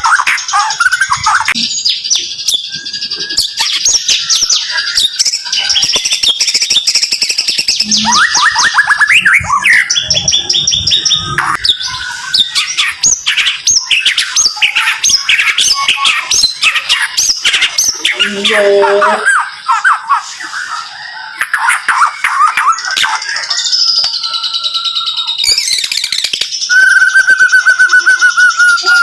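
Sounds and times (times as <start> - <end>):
songbird singing rapid whistles: 0.0 - 29.0.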